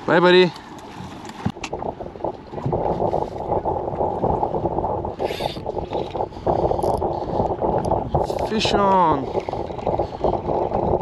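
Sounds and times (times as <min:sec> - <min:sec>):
sea noise: 0:00.0 - 0:11.0
wind: 0:00.0 - 0:11.0.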